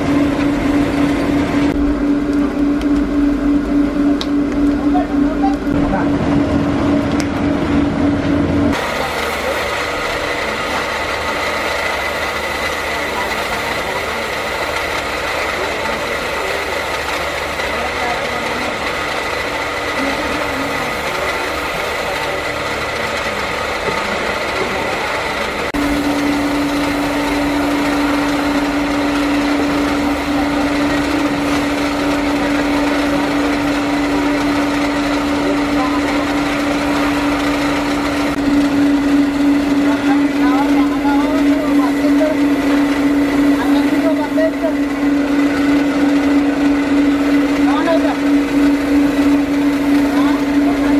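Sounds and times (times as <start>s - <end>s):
electric fan whining: 0.0s - 50.9s
electric motor humming: 0.0s - 50.9s
machine drone: 0.0s - 50.9s.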